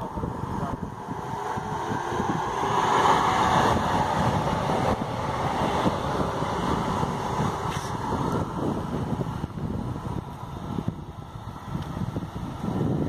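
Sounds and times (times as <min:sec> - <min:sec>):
train wheels running on rails: 0:00.0 - 0:13.0
wind noise on microphone: 0:00.0 - 0:13.0.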